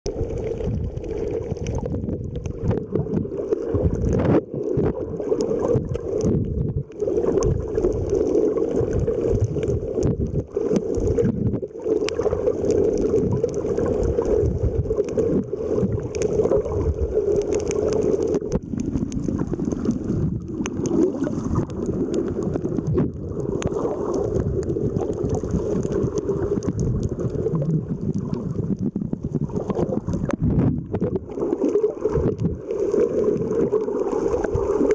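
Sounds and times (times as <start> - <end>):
muffled underwater water rush: 0.0 - 34.9.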